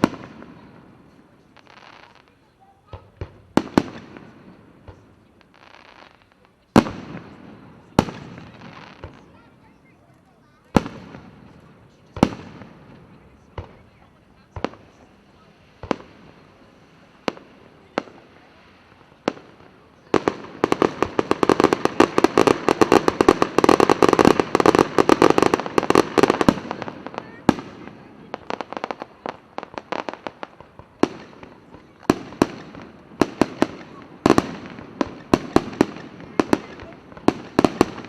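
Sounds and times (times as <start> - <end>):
fireworks banging: 0.0 - 38.0.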